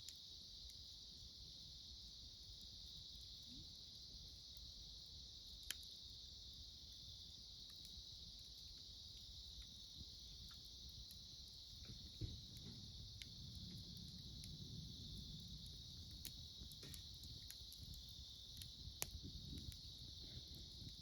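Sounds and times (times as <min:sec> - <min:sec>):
campfire crackling and popping: 0:00.0 - 0:21.0
insects chirring: 0:00.0 - 0:21.0.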